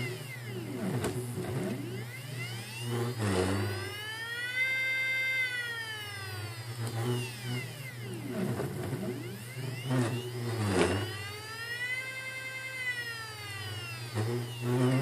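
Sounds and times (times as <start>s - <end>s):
steady low hum: 0.0s - 15.0s
stepper motor whine: 0.0s - 15.0s.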